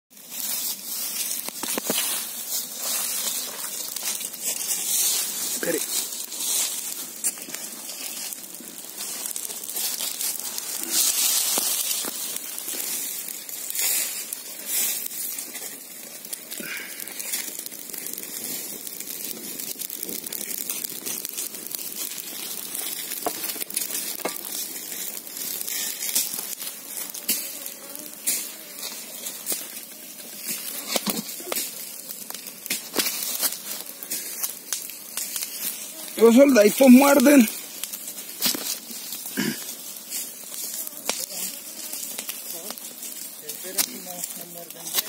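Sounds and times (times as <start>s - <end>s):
dry grass and leaves crackling: 0.1s - 45.0s
fire hissing: 0.1s - 45.0s.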